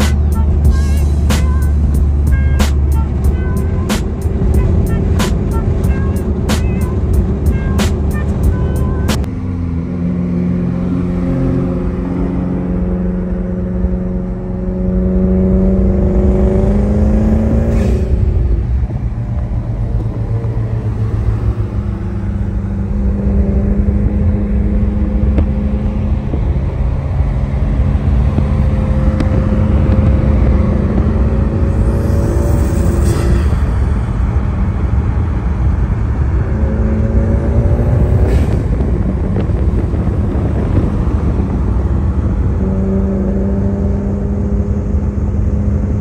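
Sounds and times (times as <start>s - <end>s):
car accelerating: 0.0s - 46.0s.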